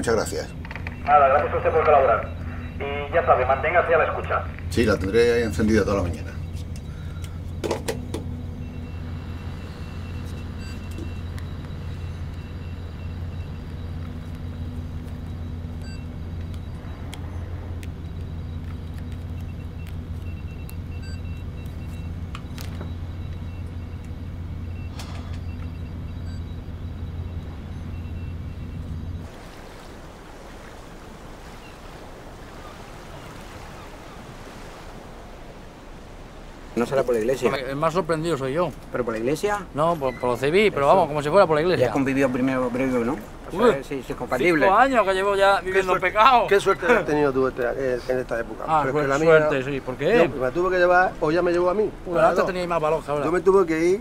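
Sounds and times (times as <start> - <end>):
boat engine humming: 0.0 - 54.0
water washing and lapping: 0.0 - 54.0
wind: 0.0 - 54.0.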